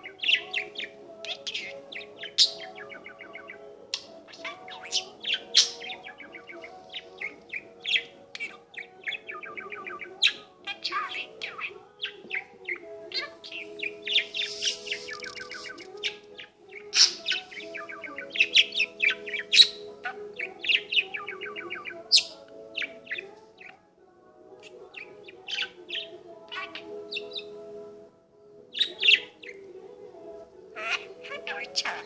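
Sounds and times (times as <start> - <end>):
budgerigar warbling and chattering: 0.0 - 23.7, 24.6 - 27.6, 28.7 - 29.6, 30.7 - 32.0.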